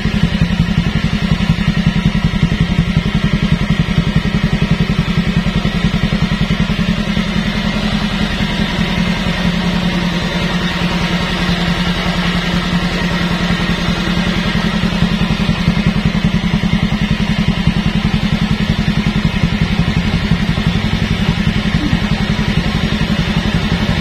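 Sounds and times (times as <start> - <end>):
scooter engine idling: 0.0 - 24.0.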